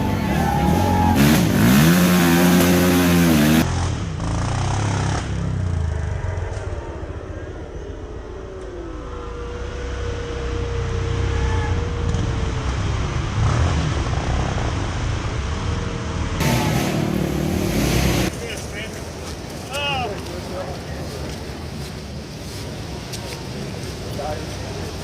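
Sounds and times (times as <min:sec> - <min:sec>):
distant atv engines whining: 0:00.0 - 0:25.0.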